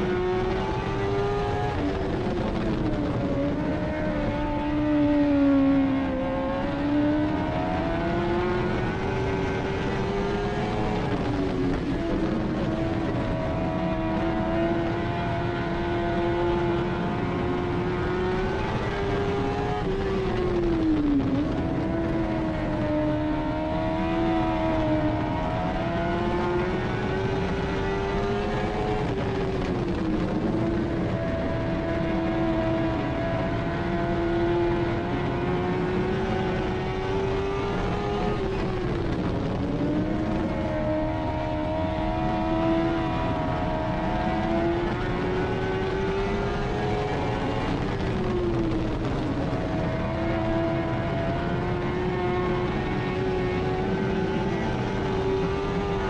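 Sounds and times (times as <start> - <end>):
race car engine at speed: 0.0 - 56.0.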